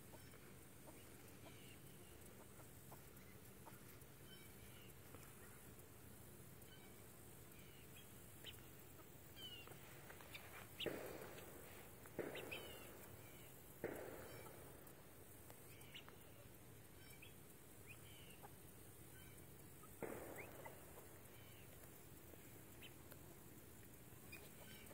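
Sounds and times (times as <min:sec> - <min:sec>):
poultry chirps and calls: 0:00.0 - 0:24.9.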